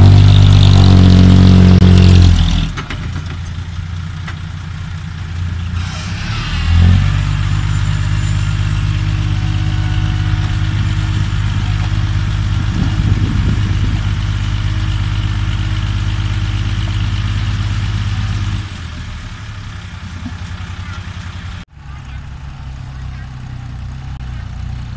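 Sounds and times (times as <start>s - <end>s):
diesel truck engine revving: 0.0s - 24.9s.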